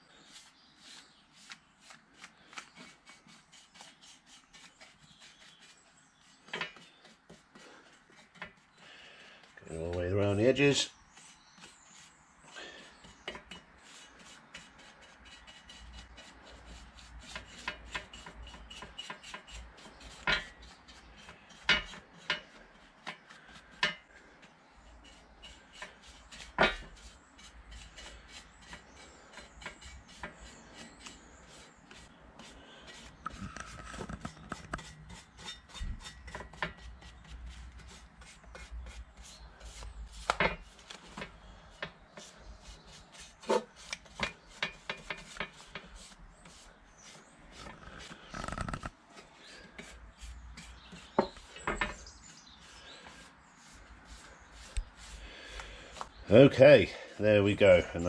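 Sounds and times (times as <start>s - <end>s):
paintbrush scrubbing on metal: 0.0s - 58.0s.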